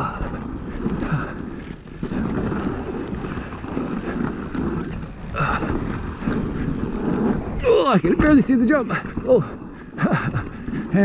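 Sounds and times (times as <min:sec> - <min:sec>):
electric mountain bike rumble: 0:00.0 - 0:11.0
wind buffeting microphone: 0:00.0 - 0:11.0.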